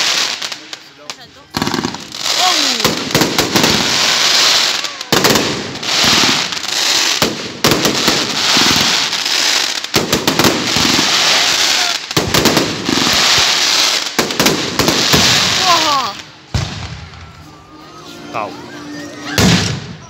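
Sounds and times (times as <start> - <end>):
dense crackling of fireworks: 0.0 - 17.5, 19.3 - 20.0.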